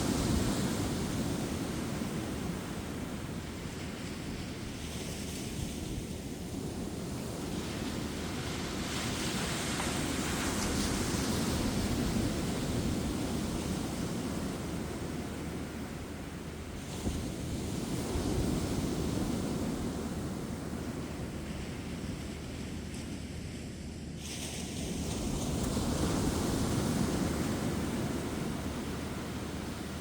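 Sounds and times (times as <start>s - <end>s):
surf washing up beach: 0.0s - 30.0s.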